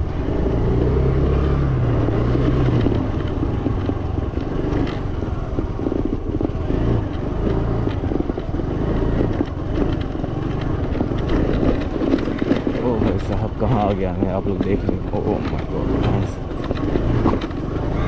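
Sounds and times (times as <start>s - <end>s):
rough road noise: 0.0s - 18.0s
scooter engine running: 0.0s - 18.0s.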